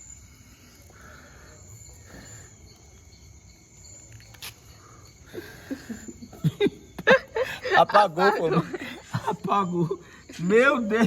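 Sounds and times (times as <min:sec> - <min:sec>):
high-pitched insect trilling: 0:00.0 - 0:11.0.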